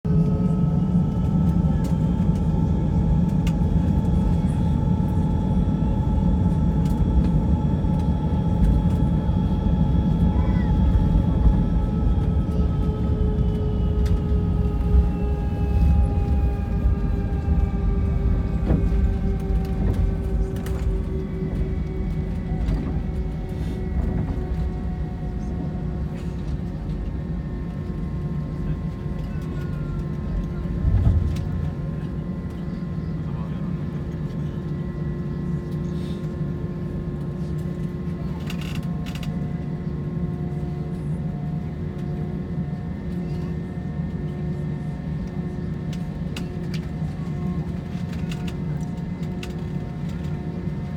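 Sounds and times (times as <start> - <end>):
airplane cabin drone: 0.0 - 50.9
jet engines rumbling and whining: 0.1 - 50.9.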